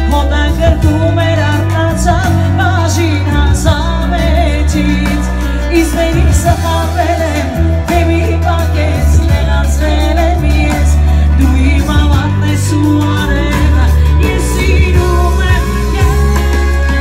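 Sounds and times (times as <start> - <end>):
amplified instrumental backing: 0.0 - 17.0
deep bass line: 0.0 - 17.0
woman singing into microphone: 0.0 - 17.0.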